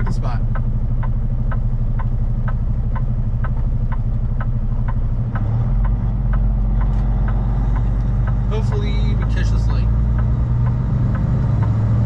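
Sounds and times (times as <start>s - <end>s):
diesel truck engine running: 0.0s - 12.0s
turn-signal relay ticking: 0.0s - 12.0s.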